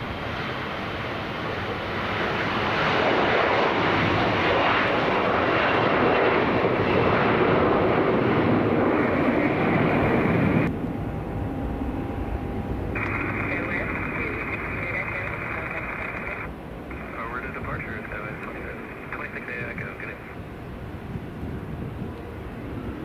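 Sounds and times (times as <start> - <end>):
jet taking off roar: 0.0 - 23.0.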